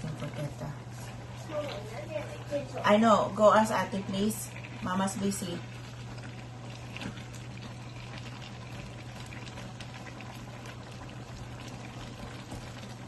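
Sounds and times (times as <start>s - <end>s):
broth simmering in a pan: 0.0s - 13.0s.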